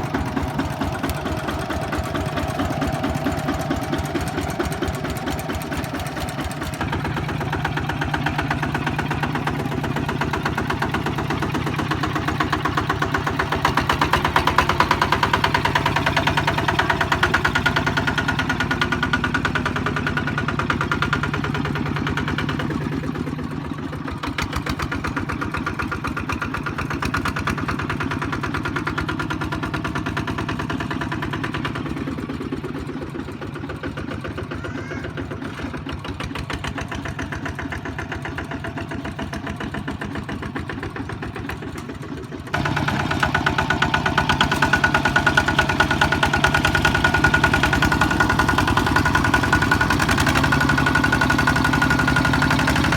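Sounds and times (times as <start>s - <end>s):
diesel engine running steadily: 0.0s - 52.9s.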